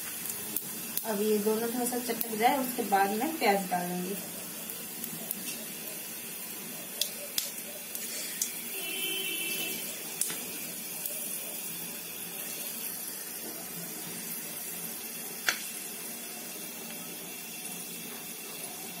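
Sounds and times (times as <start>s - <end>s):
spices popping: 0.0s - 19.0s
spices sizzling in hot oil: 0.0s - 19.0s.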